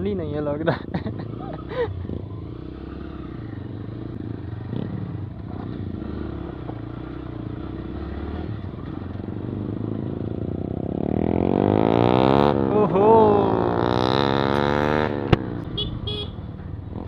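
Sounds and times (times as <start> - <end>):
motorcycle engine running: 1.0 - 17.0.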